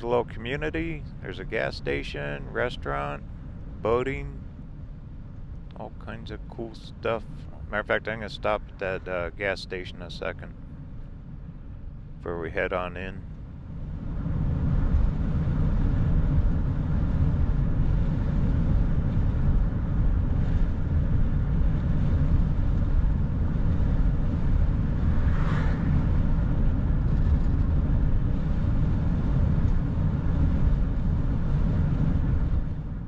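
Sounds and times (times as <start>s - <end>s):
vehicle road and engine rumble: 0.0s - 33.0s.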